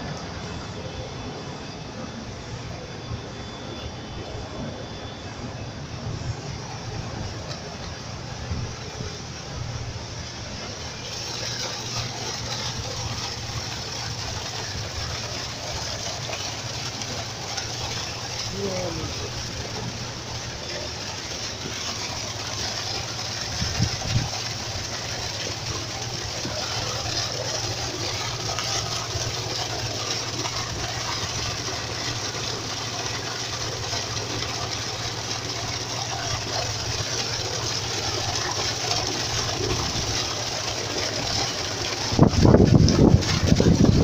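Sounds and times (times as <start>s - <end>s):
wastewater gushing and splashing: 0.0s - 44.0s.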